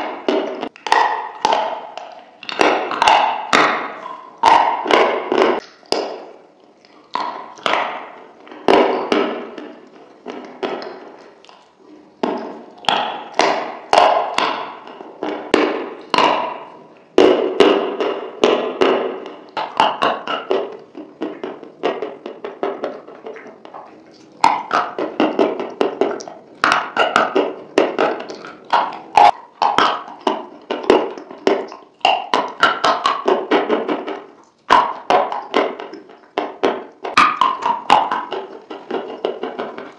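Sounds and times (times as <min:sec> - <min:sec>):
wet mouth clicks and lip smacks: 0:00.0 - 0:39.9.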